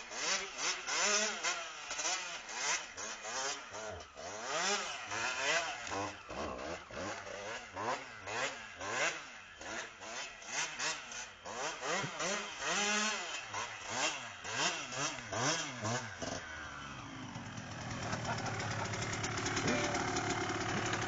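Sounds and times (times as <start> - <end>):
motorbike engine revving: 0.0 - 21.0.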